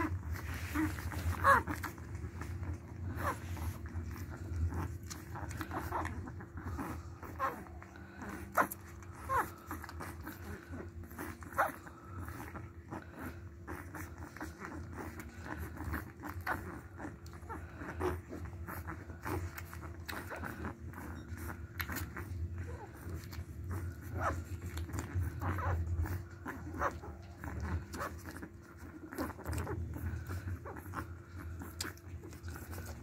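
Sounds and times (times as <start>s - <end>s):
puppies squeaking and whimpering: 0.0s - 33.0s
steady low hum: 0.0s - 33.0s.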